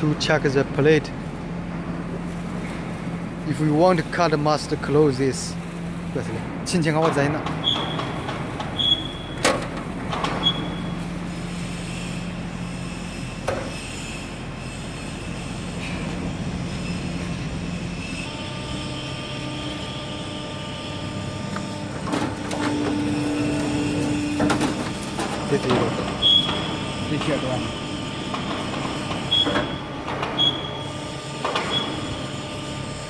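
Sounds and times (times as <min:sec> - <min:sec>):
hydraulic pump humming: 0:00.0 - 0:33.0
several-toned whine: 0:00.0 - 0:33.0.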